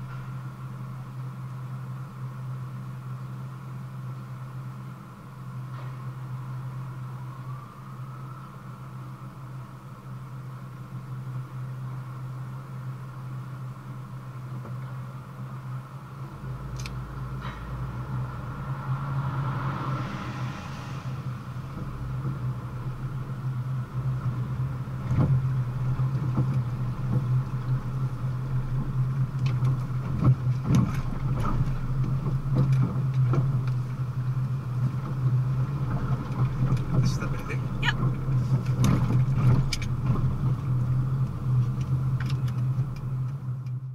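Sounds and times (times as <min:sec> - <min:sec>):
car engine hum and road noise: 0:00.0 - 0:43.9.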